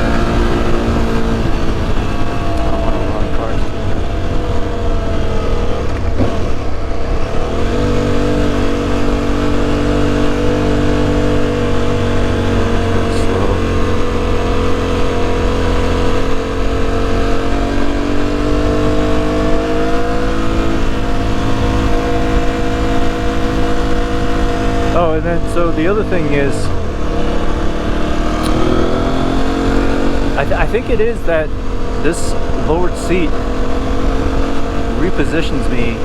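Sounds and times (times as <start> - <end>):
motorcycle engine: 0.0 - 36.0
wind rumble: 0.0 - 36.0.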